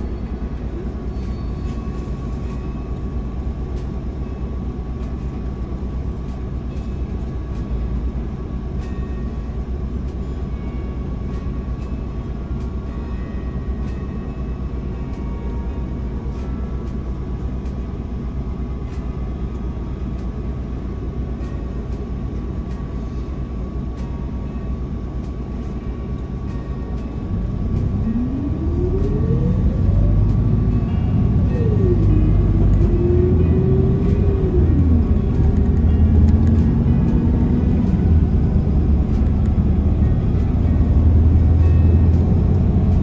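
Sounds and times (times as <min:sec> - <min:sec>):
bus diesel engine: 0:00.0 - 0:43.0.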